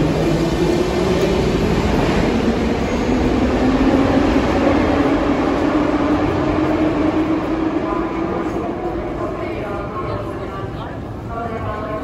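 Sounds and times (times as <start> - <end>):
metro train rumbling: 0.0 - 12.0.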